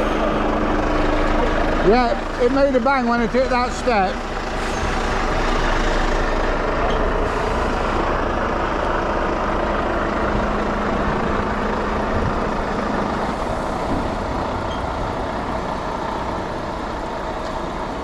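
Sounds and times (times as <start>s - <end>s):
lorry diesel engine running: 0.0s - 18.0s.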